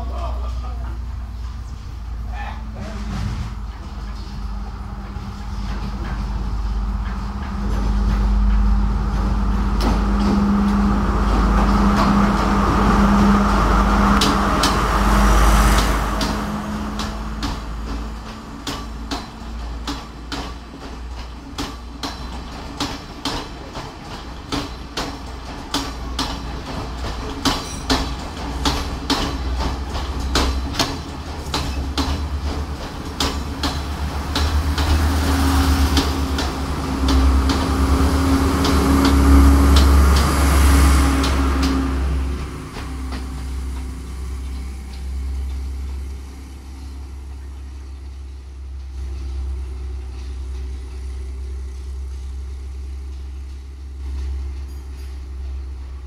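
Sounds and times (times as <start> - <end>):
train rumble and hum: 0.0 - 56.0
wheels clacking over rail joints: 0.0 - 56.0.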